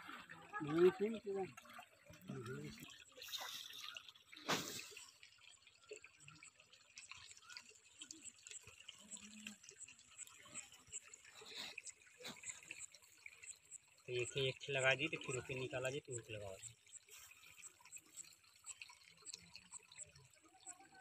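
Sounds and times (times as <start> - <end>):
fishing net wet ticking and rustling: 0.0 - 21.0.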